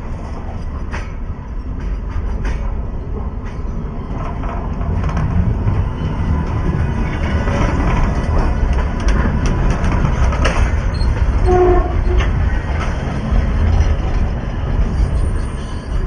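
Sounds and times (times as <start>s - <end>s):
train rumbling past: 0.0s - 16.0s
wheels clicking on rails: 0.2s - 16.0s.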